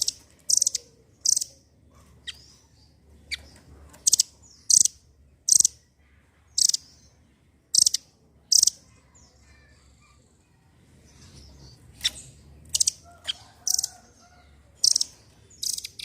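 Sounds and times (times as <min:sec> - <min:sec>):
bird chirping high: 0:00.0 - 0:05.9, 0:06.5 - 0:10.2, 0:11.0 - 0:16.0
faint bird twittering: 0:00.0 - 0:16.0.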